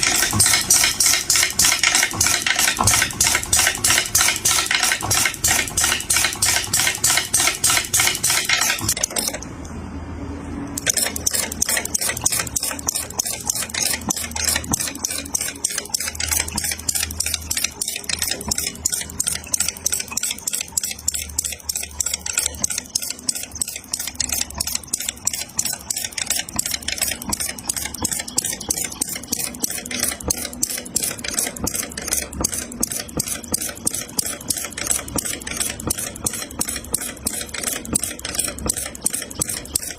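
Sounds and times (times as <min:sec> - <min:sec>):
model engine metallic ticking clatter: 0:00.0 - 0:09.4, 0:10.8 - 0:39.9.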